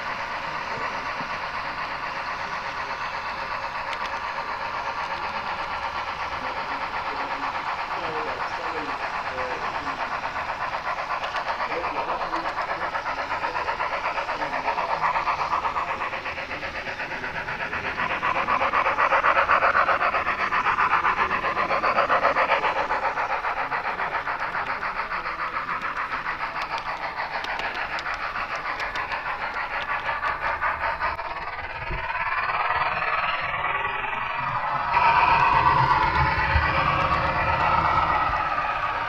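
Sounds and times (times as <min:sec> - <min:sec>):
model train running on track: 0:00.0 - 0:39.0.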